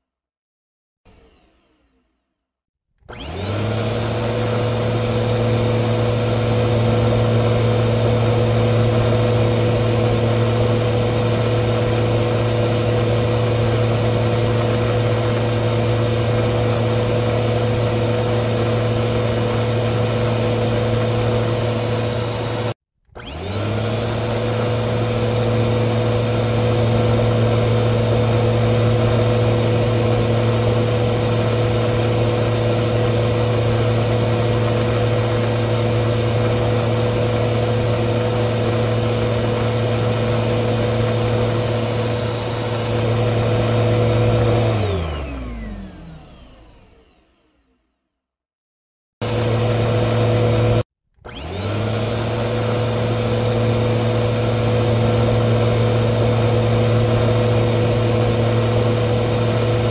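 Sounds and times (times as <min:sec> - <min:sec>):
vacuum cleaner running: 0:01.1 - 0:02.2, 0:03.1 - 0:47.9, 0:49.2 - 0:59.9.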